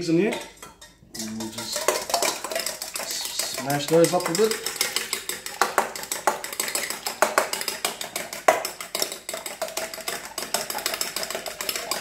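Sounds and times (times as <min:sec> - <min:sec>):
fork clinking against metal bowl: 0:00.2 - 0:12.0.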